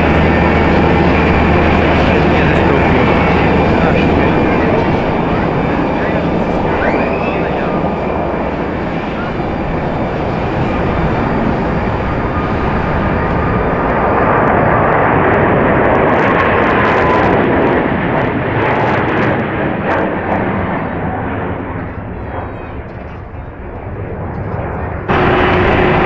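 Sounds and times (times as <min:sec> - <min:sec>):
jet engines rushing: 0:00.0 - 0:26.0.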